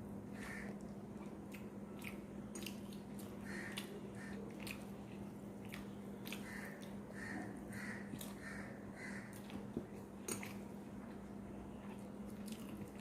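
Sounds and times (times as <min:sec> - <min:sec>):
person chewing food: 0:00.3 - 0:07.2, 0:08.0 - 0:08.6, 0:09.3 - 0:13.0.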